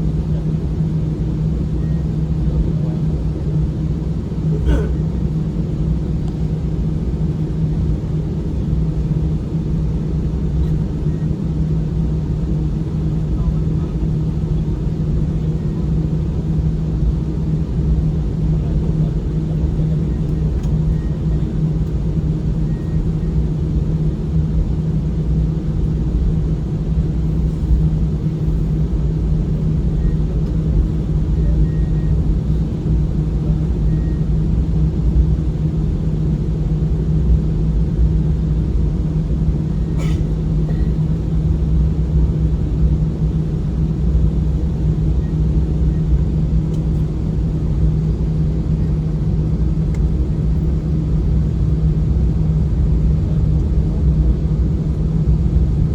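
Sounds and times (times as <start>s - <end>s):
airliner engine drone in cabin: 0.0s - 55.9s.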